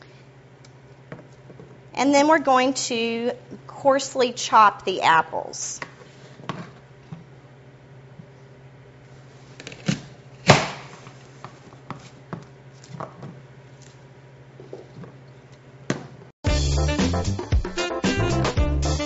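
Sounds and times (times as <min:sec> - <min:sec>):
low electrical hum: 0:00.0 - 0:16.3.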